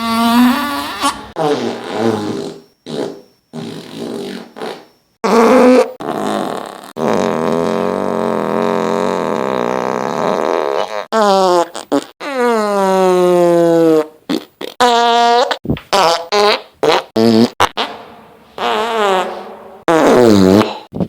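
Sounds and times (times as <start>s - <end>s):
fart sound effects: 0.0s - 21.0s.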